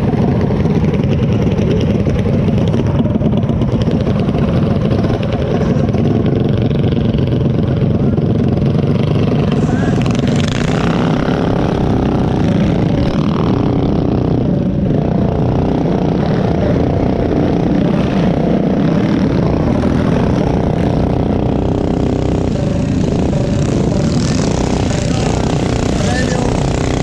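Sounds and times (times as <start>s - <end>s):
mini bike engines racing: 0.0s - 27.0s.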